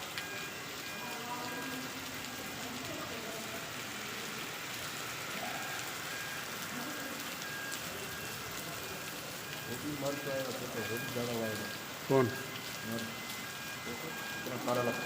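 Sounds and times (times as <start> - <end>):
rain and hail falling: 0.0 - 15.0.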